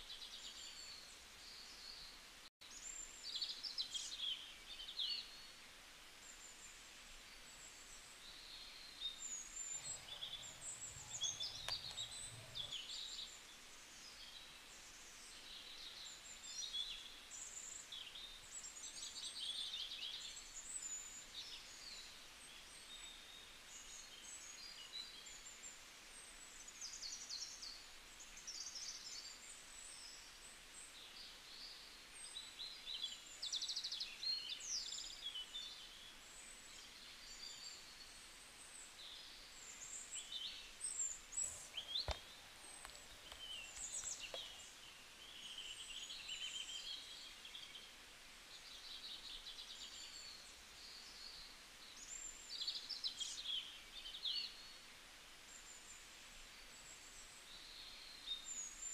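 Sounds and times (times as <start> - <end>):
faint background hiss: 0.0 - 58.9
small birds chirping and twittering: 0.0 - 58.9.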